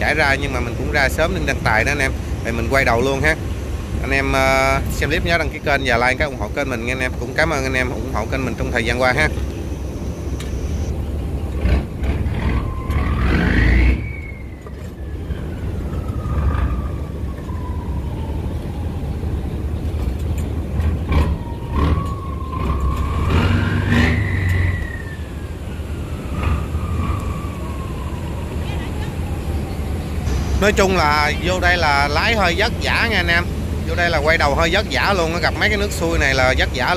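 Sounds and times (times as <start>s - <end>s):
boat diesel engine rumbling: 0.0s - 13.0s, 13.6s - 36.9s
engine whine rising in pitch: 0.0s - 36.9s.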